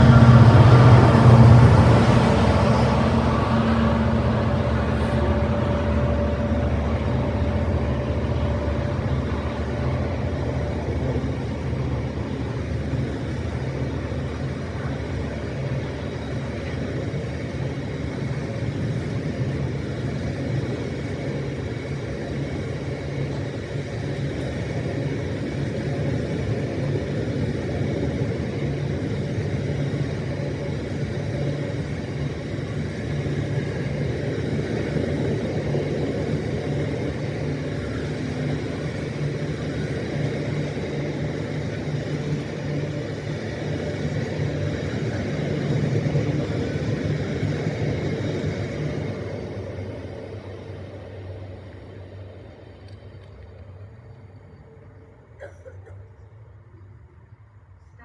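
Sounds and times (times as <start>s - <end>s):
faint whine: 0.0s - 58.0s
train rumbling: 0.0s - 58.0s.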